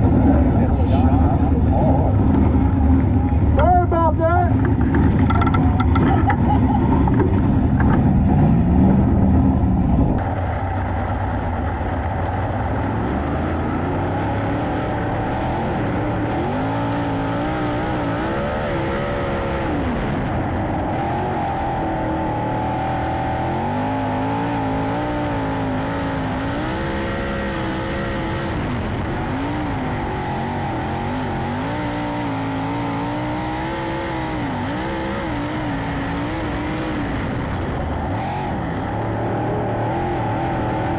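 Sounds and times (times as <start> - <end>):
race car engines: 0.0 - 40.9.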